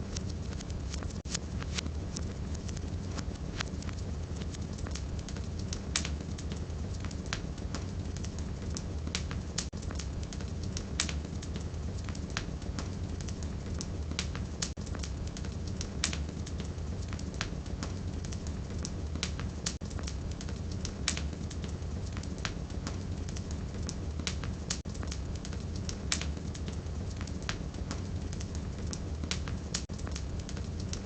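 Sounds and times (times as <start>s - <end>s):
firewood crackling and popping: 0.0s - 31.0s
flames rumbling: 0.0s - 31.0s.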